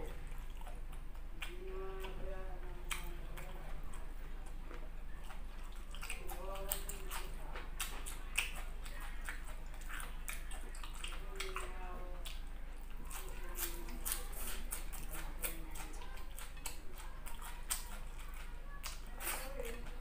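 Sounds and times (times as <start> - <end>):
chewing and lip smacking: 0.0 - 20.0.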